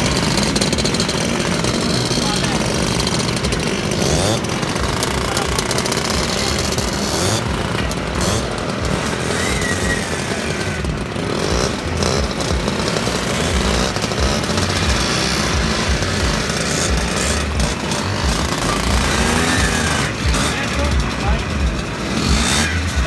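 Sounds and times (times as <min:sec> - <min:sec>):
scooter engines revving: 0:00.0 - 0:23.0
small scooter engines running: 0:00.0 - 0:23.0.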